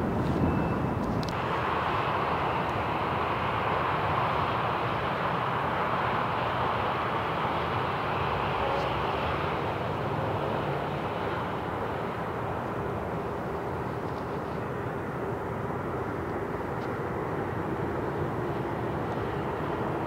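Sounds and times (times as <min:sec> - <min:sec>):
jet aircraft engine roar: 0:00.0 - 0:20.0.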